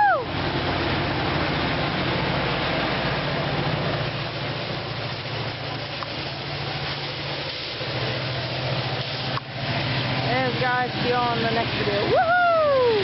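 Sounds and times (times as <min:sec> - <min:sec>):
diesel locomotive engine hum: 0:00.0 - 0:13.0.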